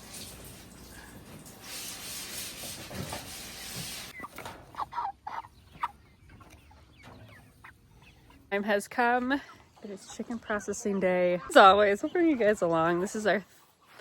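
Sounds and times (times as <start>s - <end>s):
chickens clucking: 2.7s - 14.0s.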